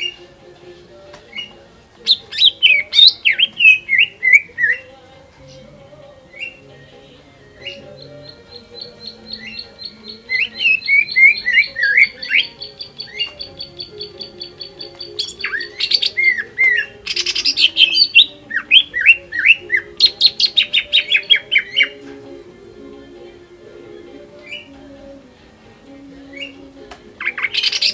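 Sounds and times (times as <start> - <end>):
bird singing: 0.0 - 22.3, 24.3 - 24.9, 26.2 - 27.9.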